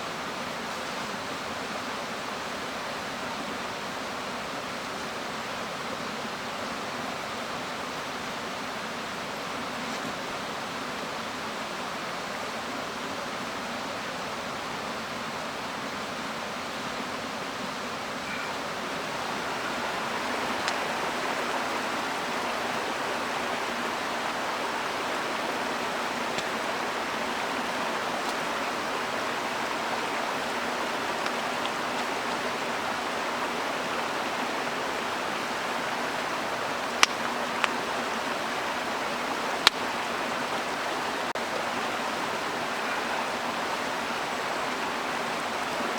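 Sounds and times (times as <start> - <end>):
stream rushing: 0.0 - 45.9.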